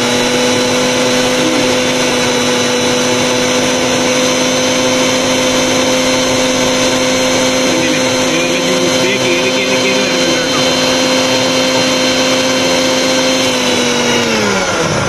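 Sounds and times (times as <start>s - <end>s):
mixer grinder motor whirring: 0.0s - 15.0s.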